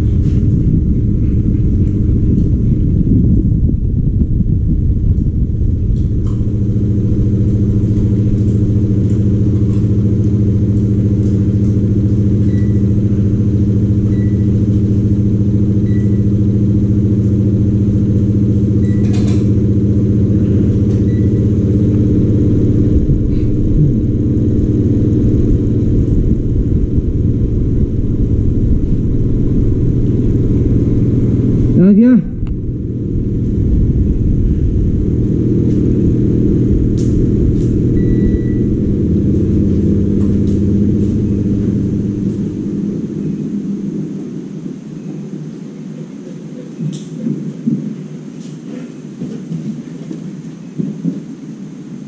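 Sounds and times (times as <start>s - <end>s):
machine droning: 0.0s - 52.0s.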